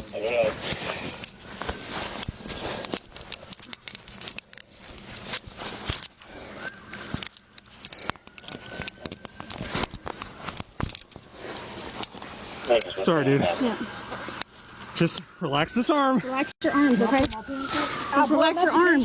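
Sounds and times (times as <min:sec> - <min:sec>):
clothing scuffling and rustling: 0:00.0 - 0:15.3, 0:16.2 - 0:19.0.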